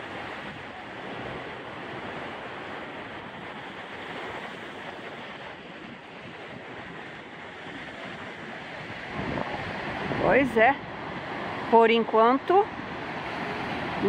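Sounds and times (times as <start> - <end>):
ocean surf on beach: 0.0 - 14.0
wind blowing across microphone: 0.0 - 14.0.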